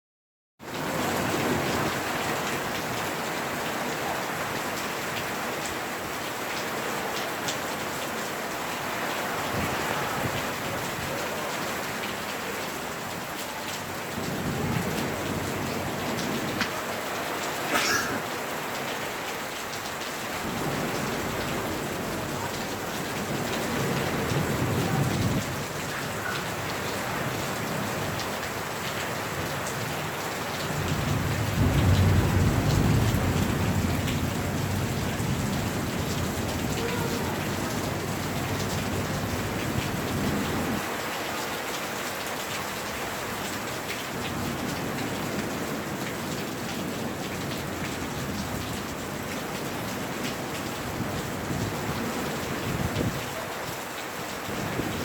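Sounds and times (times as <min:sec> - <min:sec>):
steady rain falling: 0:00.6 - 0:55.0.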